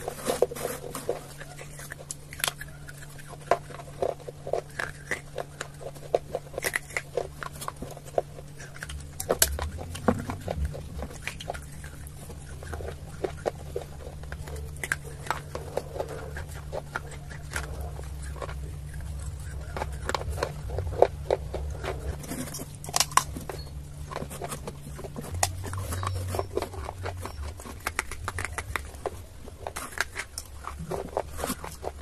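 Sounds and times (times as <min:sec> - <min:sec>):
clay crunching in mouth: 0:00.0 - 0:32.0
steady low hum: 0:00.0 - 0:32.0.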